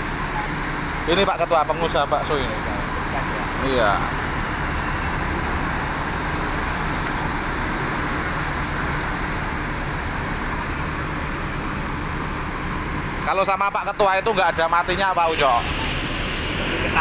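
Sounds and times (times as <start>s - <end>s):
diesel bus engine idling: 0.0s - 17.0s
street traffic noise: 0.0s - 17.0s.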